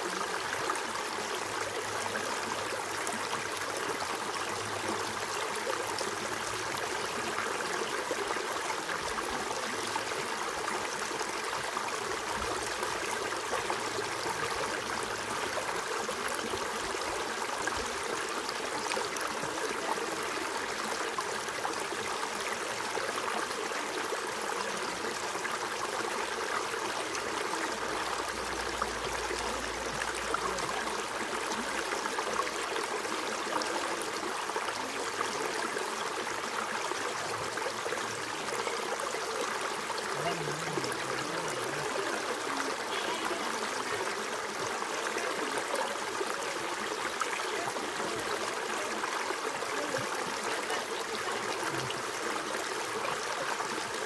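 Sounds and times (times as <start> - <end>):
creek flowing over stones: 0.0 - 54.0.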